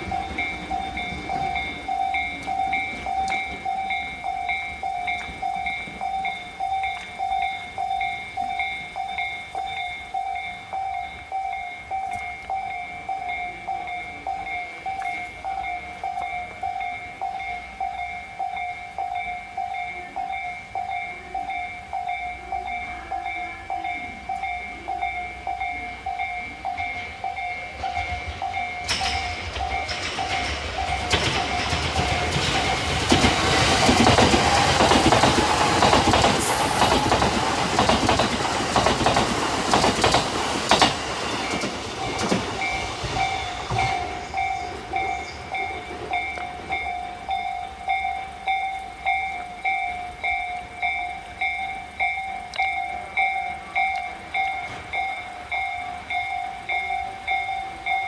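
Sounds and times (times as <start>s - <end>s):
level crossing warning bell: 0.0s - 58.0s
train rumbling past: 0.0s - 58.0s.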